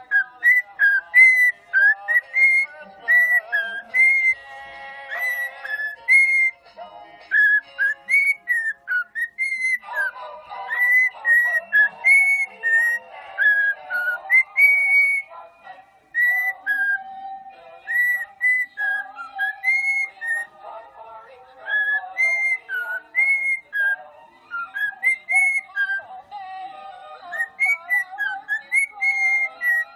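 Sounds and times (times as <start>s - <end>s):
parrot whistling: 0.0s - 6.6s, 7.3s - 15.4s, 16.1s - 20.5s, 21.6s - 26.1s, 27.2s - 29.9s.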